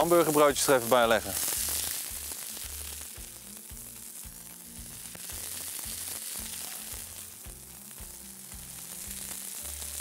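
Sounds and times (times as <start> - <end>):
meat sizzling on a griddle: 0.0 - 10.0.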